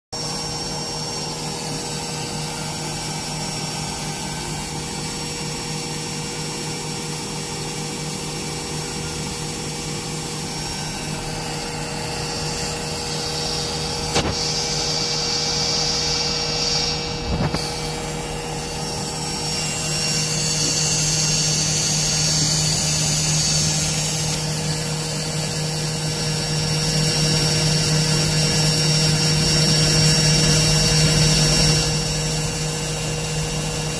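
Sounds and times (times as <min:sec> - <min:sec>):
washing machine spinning: 0:00.1 - 0:33.9.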